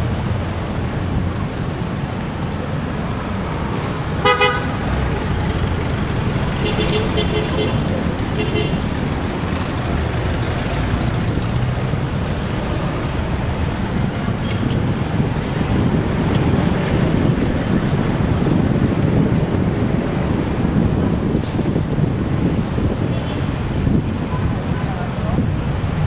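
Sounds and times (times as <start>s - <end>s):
city traffic hum: 0.0s - 26.0s
road and wind noise: 0.0s - 26.0s.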